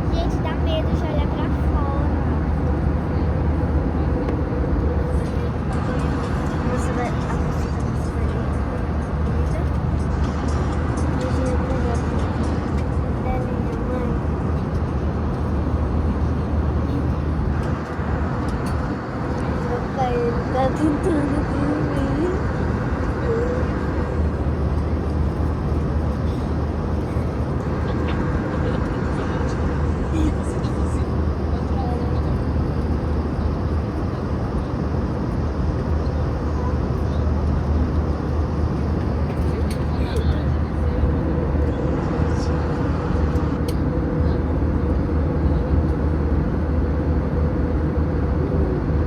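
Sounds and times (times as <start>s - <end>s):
airliner cabin engine roar: 0.0s - 49.0s.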